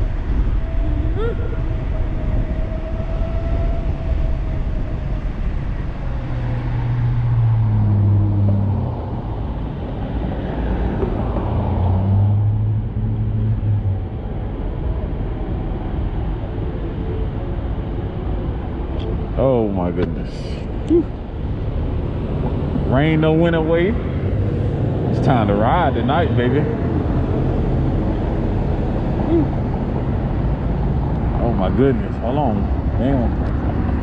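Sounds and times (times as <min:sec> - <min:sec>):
low hum: 0:00.0 - 0:34.0
wind rushing over microphone: 0:00.0 - 0:34.0.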